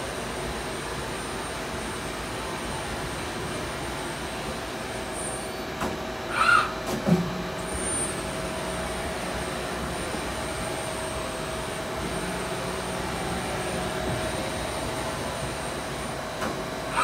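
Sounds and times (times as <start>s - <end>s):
shop machinery whirring: 0.0s - 17.0s.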